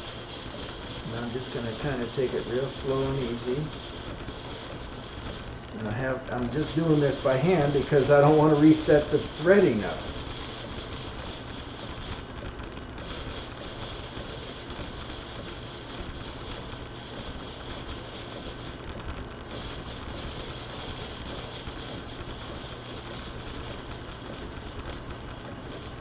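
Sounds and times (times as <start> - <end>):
metal lathe running: 0.0 - 26.0.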